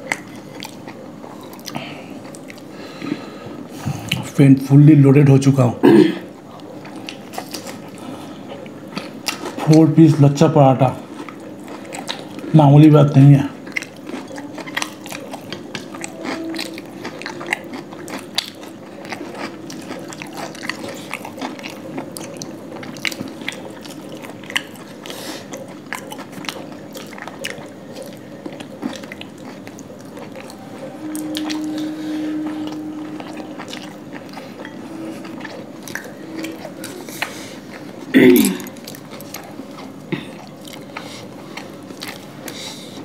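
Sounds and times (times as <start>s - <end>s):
low steady hum: 0.0s - 43.0s
people chewing food: 0.0s - 43.0s.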